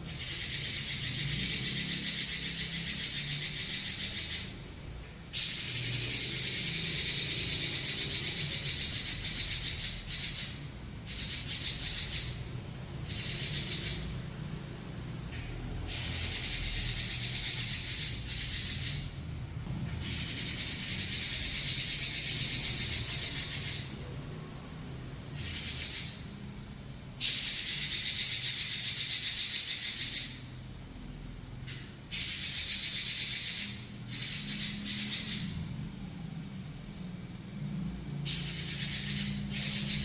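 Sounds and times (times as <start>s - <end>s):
bird singing rapid rattling trills: 0.0s - 14.8s, 15.6s - 19.3s, 19.9s - 30.7s, 31.6s - 37.1s, 38.0s - 40.0s.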